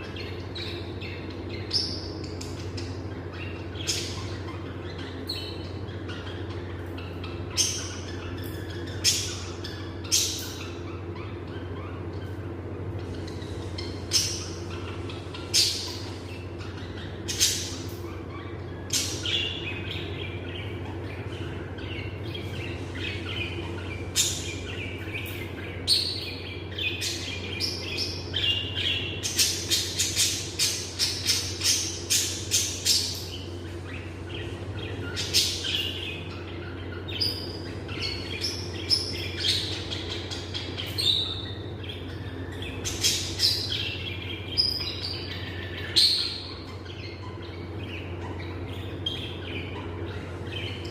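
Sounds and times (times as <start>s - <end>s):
lovebirds chirping: 0.0s - 50.9s
steady low hum: 0.0s - 50.9s.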